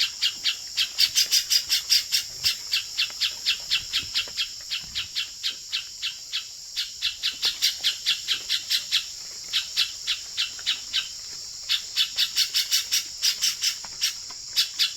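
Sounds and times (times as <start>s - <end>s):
high insect drone: 0.0s - 14.9s.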